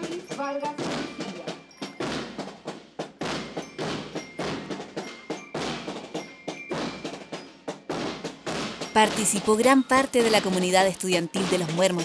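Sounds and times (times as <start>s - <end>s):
marching band drums beating: 0.0s - 12.0s.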